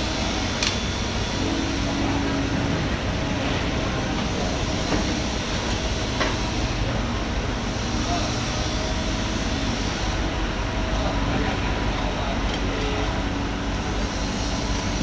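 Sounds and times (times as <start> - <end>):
loud rumbling: 0.0 - 12.4.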